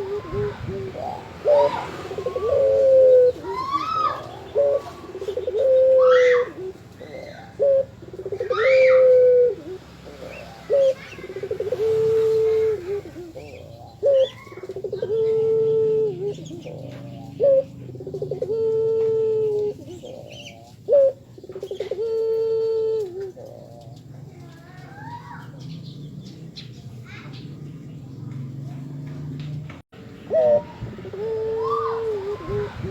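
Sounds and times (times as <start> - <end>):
dove cooing: 0.0 - 29.3, 30.0 - 32.9
small birds chirping: 0.0 - 32.9.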